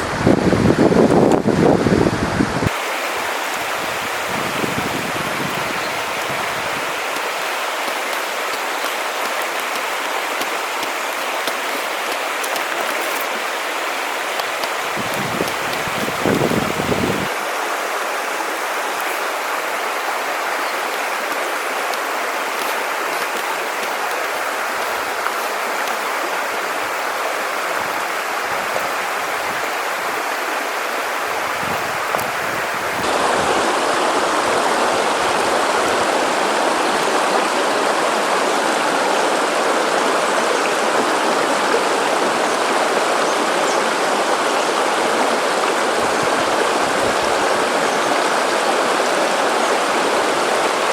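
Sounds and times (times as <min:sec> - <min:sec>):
river water rushing over rocks: 0:00.0 - 0:50.9.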